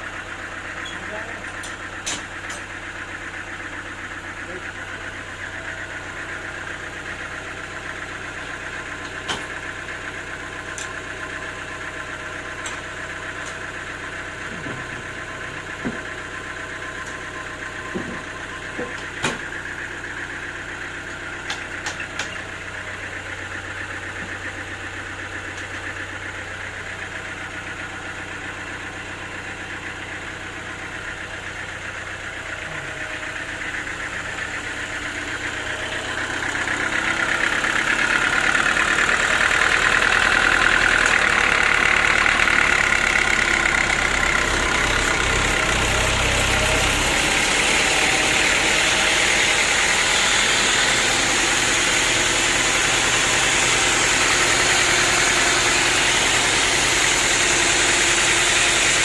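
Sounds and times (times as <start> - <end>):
sawmill machinery motor hum: 0.0 - 59.0.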